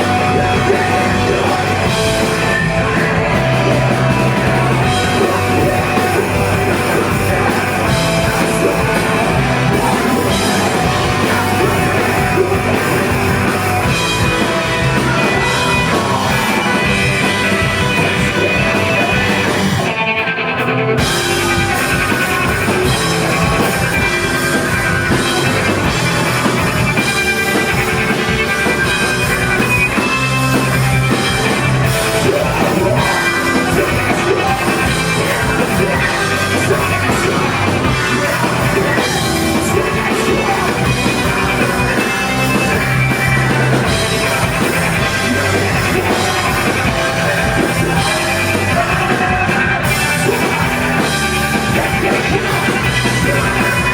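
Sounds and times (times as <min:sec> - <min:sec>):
live rock band playing loudly: 0:00.0 - 0:53.9.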